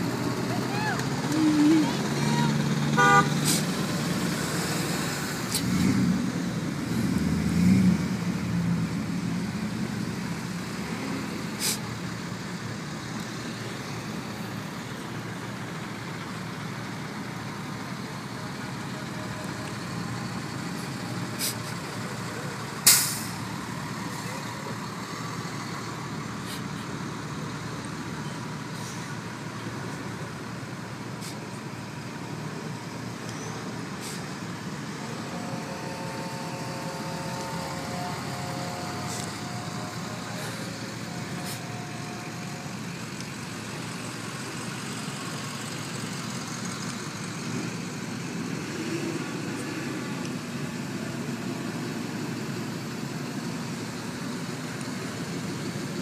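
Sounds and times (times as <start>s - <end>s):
rumble of trucks and traffic: 0.0s - 56.0s.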